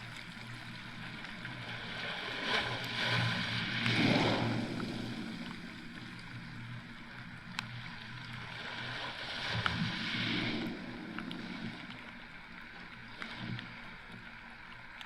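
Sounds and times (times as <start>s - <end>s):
small waves washing on beach: 0.0s - 14.8s.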